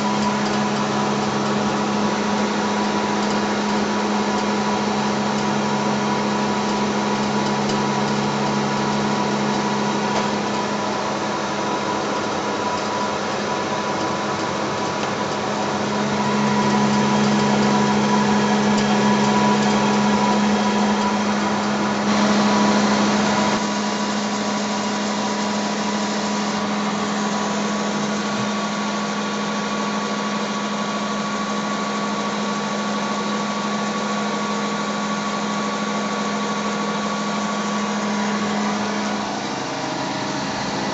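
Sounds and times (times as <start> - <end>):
electrical hum with low drone: 0.0 - 40.9.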